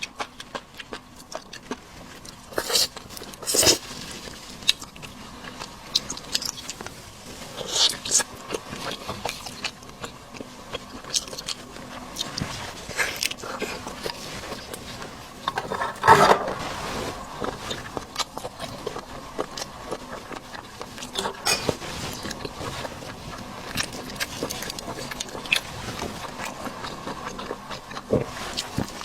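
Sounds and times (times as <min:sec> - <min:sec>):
chewing seafood: 0:00.0 - 0:16.1, 0:17.0 - 0:29.0.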